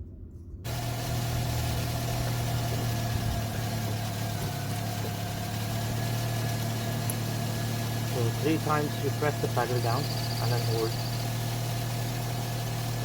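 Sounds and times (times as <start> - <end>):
car engine idling: 0.7 - 13.0.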